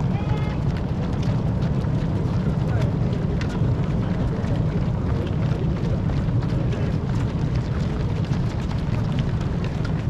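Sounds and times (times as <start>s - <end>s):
runners' footsteps: 0.0s - 10.0s
wind rumble on microphone: 0.0s - 10.0s.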